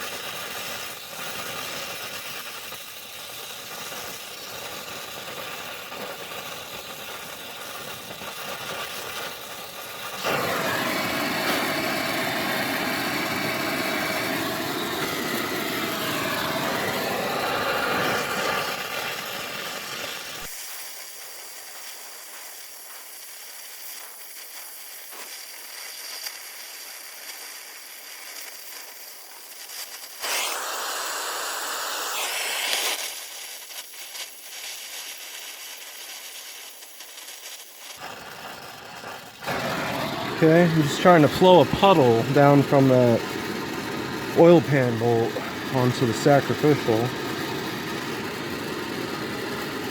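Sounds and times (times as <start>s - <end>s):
torch flame hissing: 0.0s - 49.9s.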